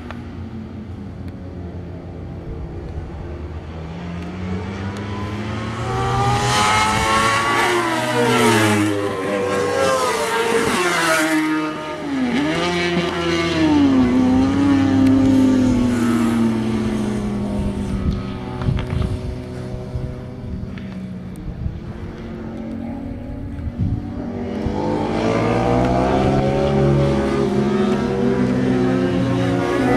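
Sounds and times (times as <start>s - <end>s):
racing motorcycles passing: 0.0s - 29.9s.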